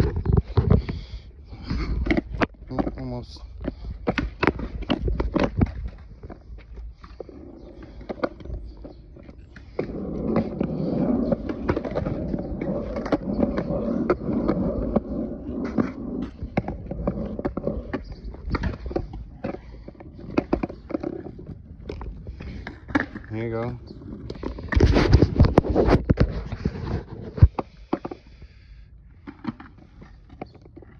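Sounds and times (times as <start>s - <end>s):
skateboard wheels rolling on concrete: 0.0s - 30.9s.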